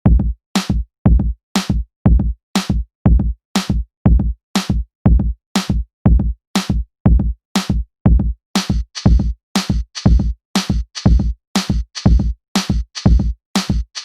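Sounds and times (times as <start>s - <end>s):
drum machine electronic beat: 0.1s - 14.0s.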